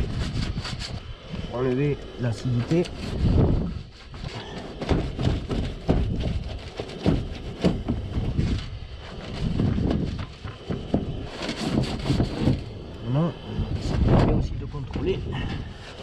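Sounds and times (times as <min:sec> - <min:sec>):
cloth scrubbing metal sheet: 0:00.0 - 0:16.0.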